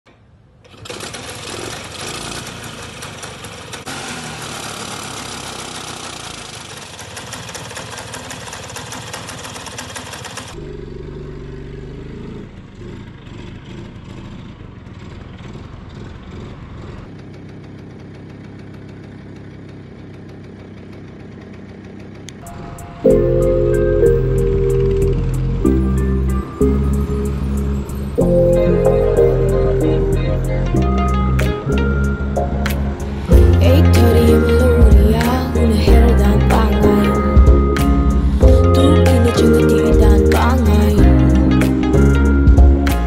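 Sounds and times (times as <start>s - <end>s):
scooter engine running: 0.6s - 43.0s.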